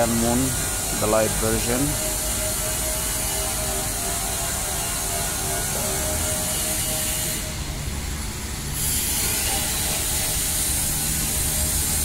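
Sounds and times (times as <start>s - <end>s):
industrial hiss and rumble: 0.0s - 12.0s.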